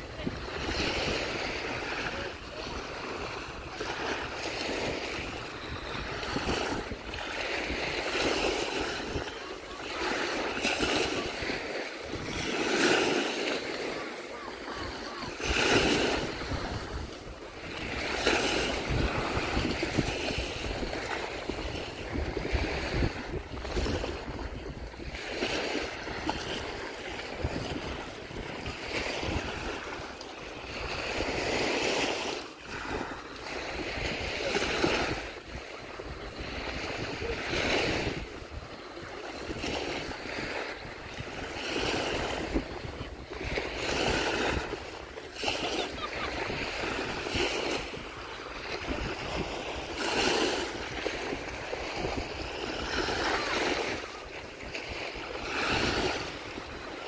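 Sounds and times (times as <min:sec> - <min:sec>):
waves breaking on sandy beach: 0:00.0 - 0:57.0.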